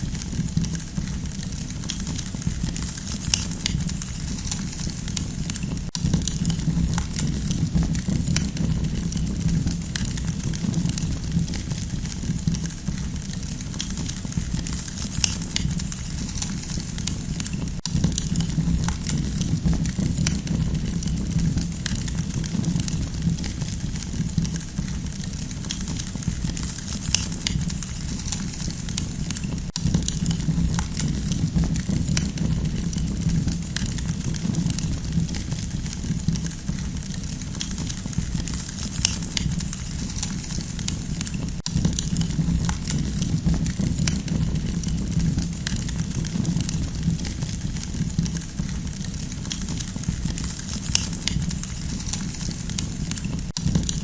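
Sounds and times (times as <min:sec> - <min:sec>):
campfire wood crackling: 0:00.0 - 0:54.0
low fire rumble: 0:00.0 - 0:54.0.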